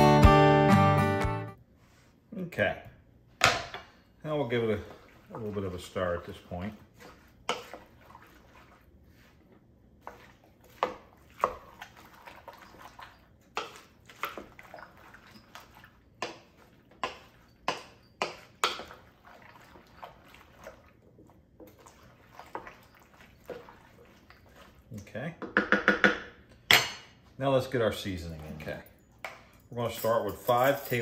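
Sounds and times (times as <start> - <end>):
wet squelches of stirring: 4.1 - 25.4, 27.0 - 30.7.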